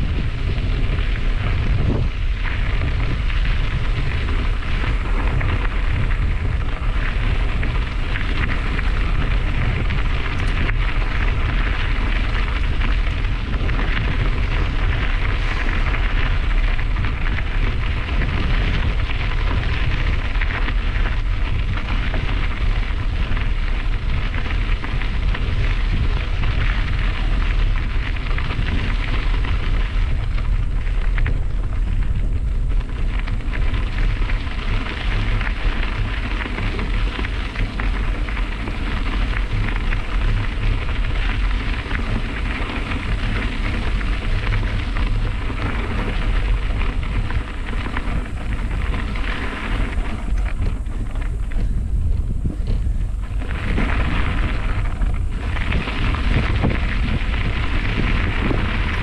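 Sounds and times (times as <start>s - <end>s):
bicycle tyres crunching on gravel: 0.0s - 59.0s
wind rumble on microphone: 0.0s - 59.0s.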